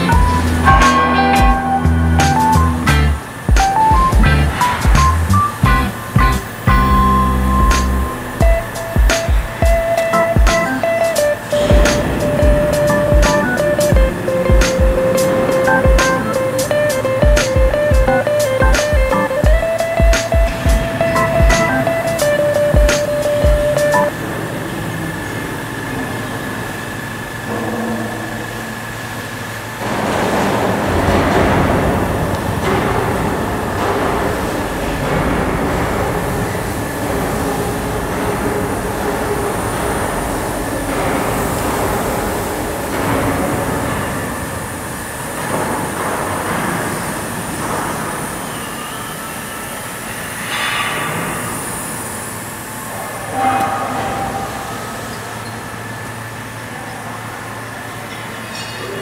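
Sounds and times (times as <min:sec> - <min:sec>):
faint steady whine: 0:00.0 - 0:59.0
hydraulic baler drone: 0:00.0 - 0:59.0
sharp loud mechanical noises: 0:00.0 - 0:59.0.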